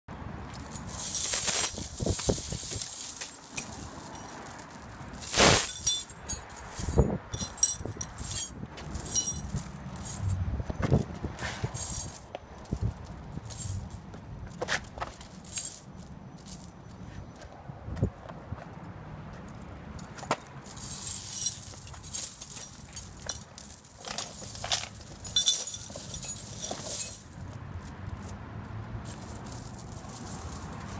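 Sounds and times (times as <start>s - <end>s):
tire chains clinking on concrete: 0.4s - 17.4s, 19.4s - 30.9s.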